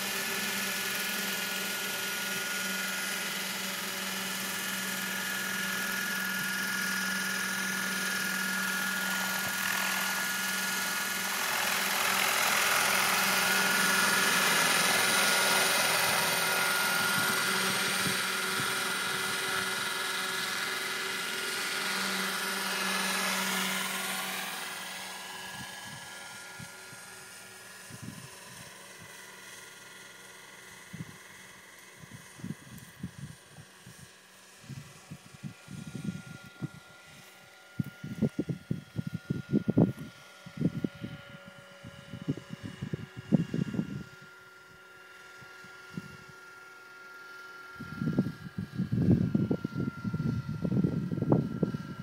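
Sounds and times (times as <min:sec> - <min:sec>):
model helicopter rotor whine: 0:00.0 - 0:52.0.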